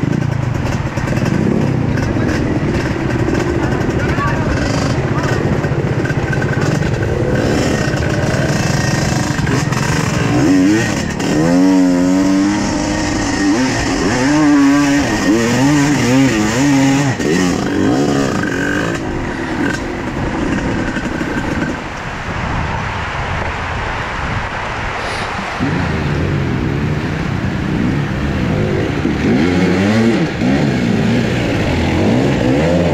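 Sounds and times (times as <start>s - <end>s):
motorcycle engine revving: 0.0s - 22.2s, 25.6s - 32.9s.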